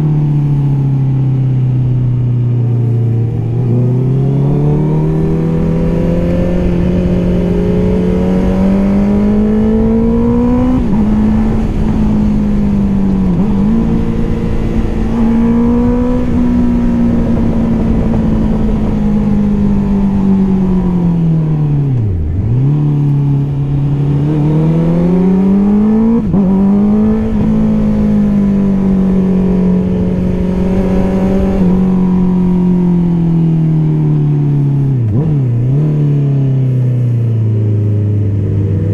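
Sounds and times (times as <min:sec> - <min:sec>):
motorcycle engine accelerating: 0:00.0 - 0:38.9
wind rush: 0:02.8 - 0:34.0.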